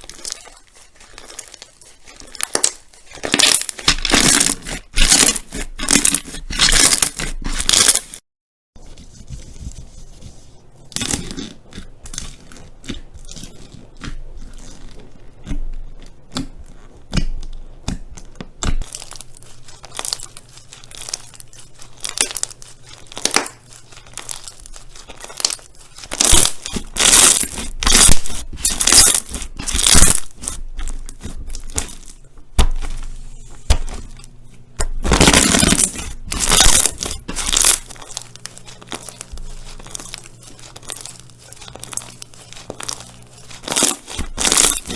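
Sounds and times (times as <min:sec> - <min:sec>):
slime crackling: 0:00.0 - 0:08.2, 0:15.8 - 0:44.9.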